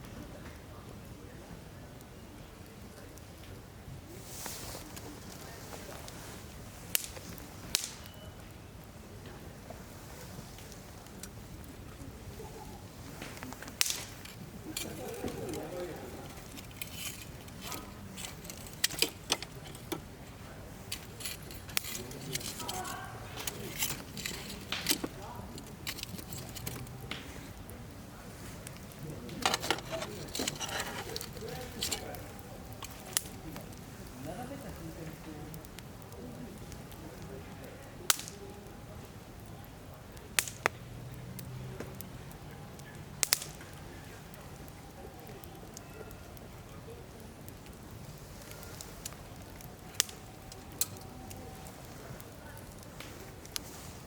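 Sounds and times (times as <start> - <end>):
campfire crackling: 0.0 - 54.0
wood fire pops and snaps: 1.9 - 54.0.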